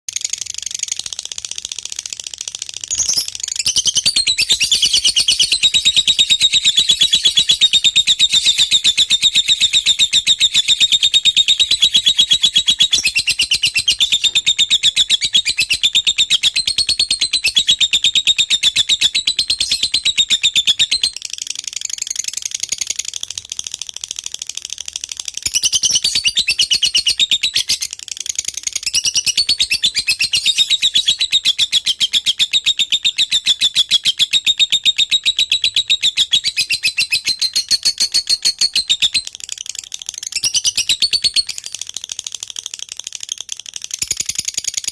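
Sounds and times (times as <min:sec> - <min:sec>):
lovebird chattering: 0:00.1 - 0:23.9, 0:25.4 - 0:44.9.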